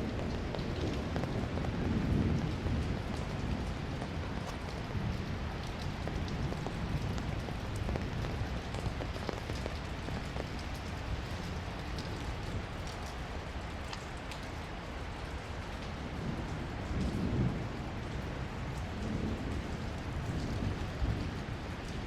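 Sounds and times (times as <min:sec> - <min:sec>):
rain falling on street: 0:00.0 - 0:22.0.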